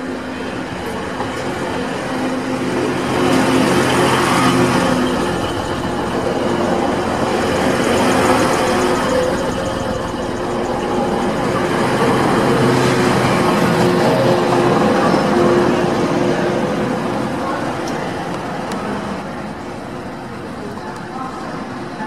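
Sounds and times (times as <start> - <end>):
train engine droning: 0.0 - 22.0
wheels rushing on rails: 0.0 - 22.0.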